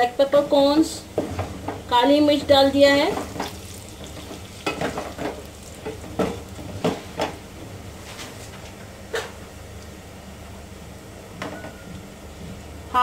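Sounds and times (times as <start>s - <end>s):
oil sizzling faintly: 0.0s - 11.0s.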